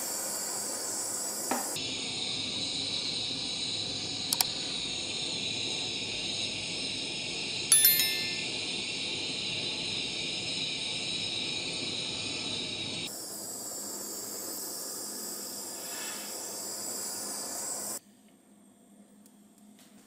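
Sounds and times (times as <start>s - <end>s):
blowtorch flame hissing: 0.0s - 7.7s, 8.9s - 18.0s.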